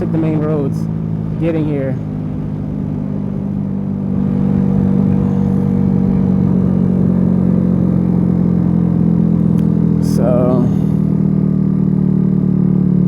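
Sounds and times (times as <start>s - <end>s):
road noise: 0.0s - 13.0s
scooter engine running: 0.0s - 13.0s.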